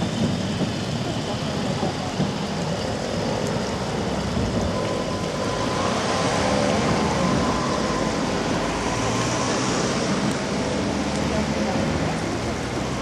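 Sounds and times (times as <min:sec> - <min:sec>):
steam train rumbling: 0:00.0 - 0:13.0.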